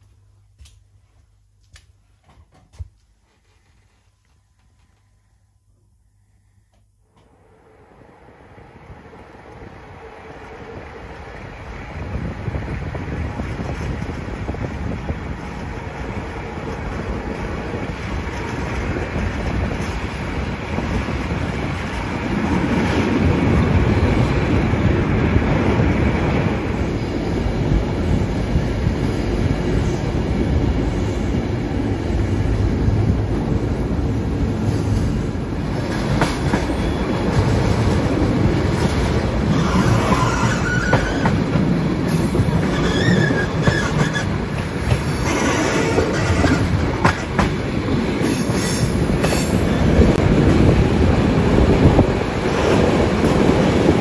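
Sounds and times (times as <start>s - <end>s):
train wheels rumbling on rails: 8.7s - 54.0s.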